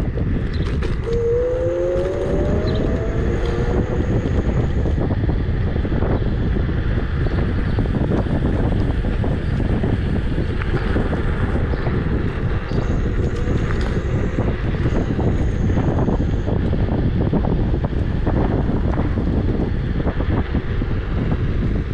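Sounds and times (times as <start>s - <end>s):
wind rumble on microphone: 0.0s - 21.9s.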